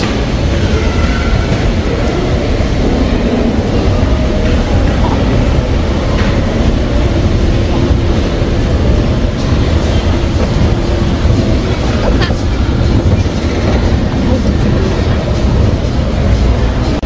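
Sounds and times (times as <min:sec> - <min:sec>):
escalator mechanical rumble: 0:00.0 - 0:17.0.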